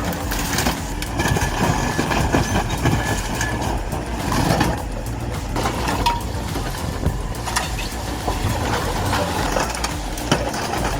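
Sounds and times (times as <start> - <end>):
low engine drone: 0.0 - 10.9
metal being crushed: 0.0 - 10.9.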